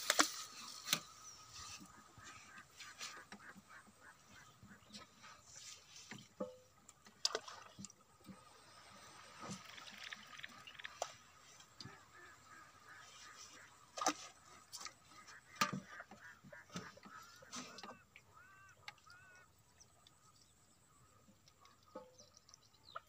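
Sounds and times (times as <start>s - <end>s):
water sloshing against boat: 0.0s - 23.0s.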